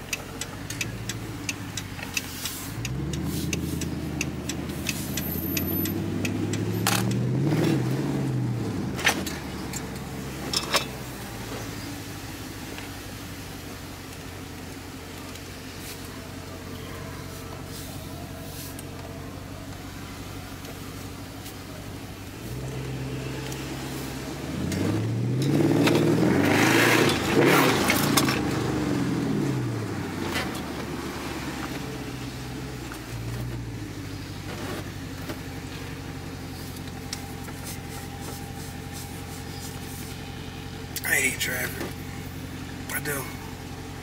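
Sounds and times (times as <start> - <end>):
car engine revving: 0.0 - 15.6, 21.9 - 44.0.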